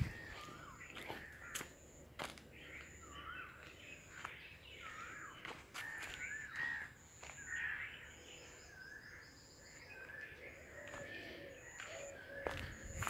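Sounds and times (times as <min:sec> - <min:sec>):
birds warbling: 0:00.0 - 0:13.0.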